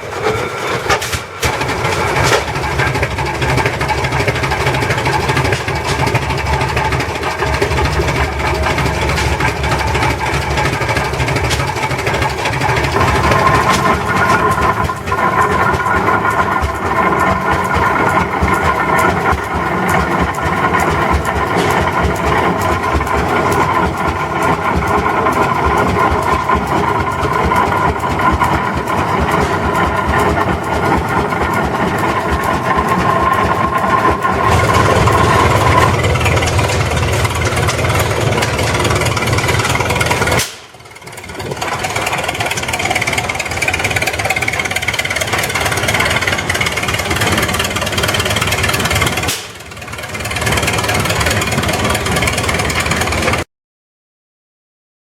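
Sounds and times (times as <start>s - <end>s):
tractor engines running: 0.0s - 53.5s.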